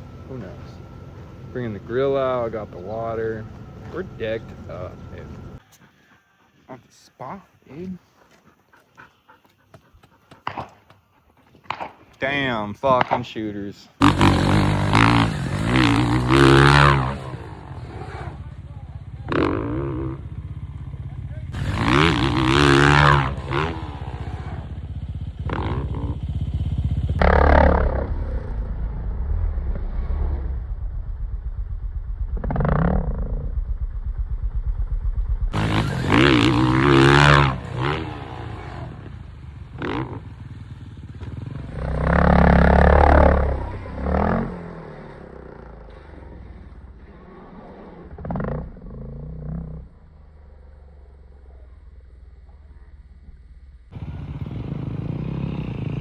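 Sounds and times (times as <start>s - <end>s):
vehicle engine revving: 0.0s - 5.6s, 14.0s - 56.0s.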